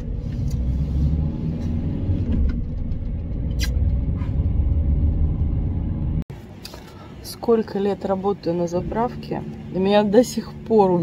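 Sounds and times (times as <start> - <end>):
engine and road noise in van: 0.0 - 11.0.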